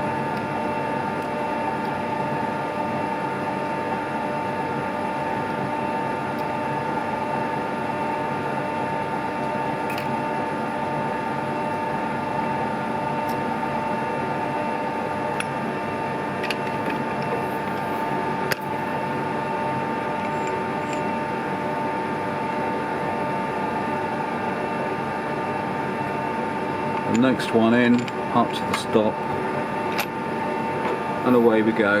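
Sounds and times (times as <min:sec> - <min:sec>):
lathe gear whine: 0:00.0 - 0:32.0.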